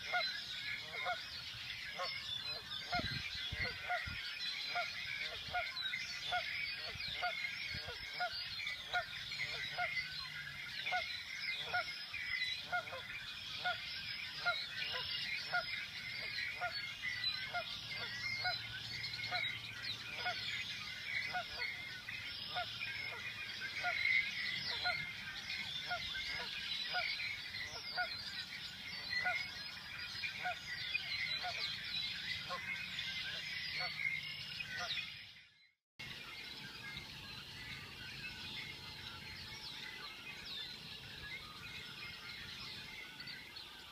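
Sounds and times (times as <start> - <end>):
blackbirds calling and singing: 0.0 - 35.4, 36.0 - 43.9.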